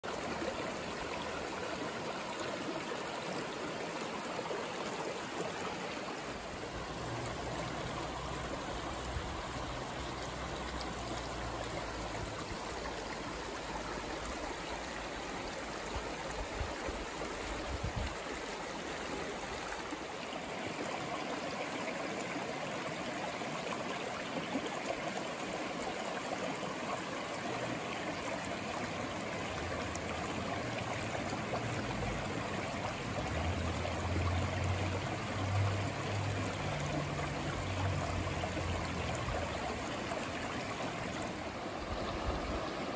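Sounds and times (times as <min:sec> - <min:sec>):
creek flowing over stones: 0:00.0 - 0:42.9
water trickling and splashing: 0:00.0 - 0:42.9.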